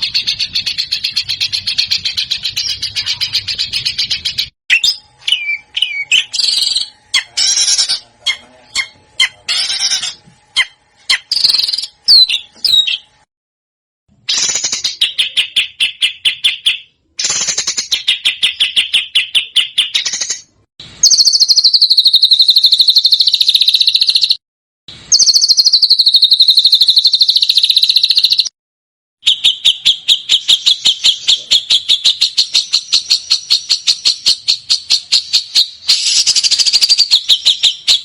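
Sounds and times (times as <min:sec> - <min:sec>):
songbird trills: 0:00.0 - 0:13.2, 0:14.3 - 0:24.4, 0:25.1 - 0:28.5, 0:29.2 - 0:38.0.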